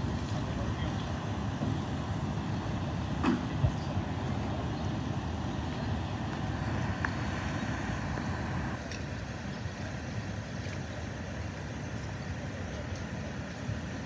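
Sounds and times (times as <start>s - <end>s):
vehicle engines idling: 0.0s - 14.0s.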